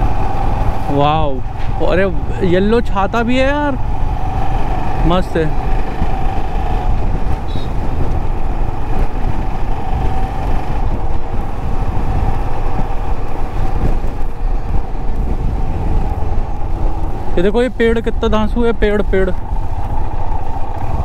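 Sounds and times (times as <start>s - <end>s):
motorcycle engine: 0.0s - 21.0s
road noise: 0.0s - 21.0s.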